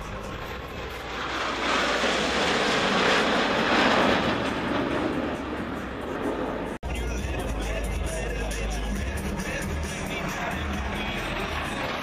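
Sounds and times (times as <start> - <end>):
jet fly-by roar: 0.0 - 6.9, 8.2 - 12.0.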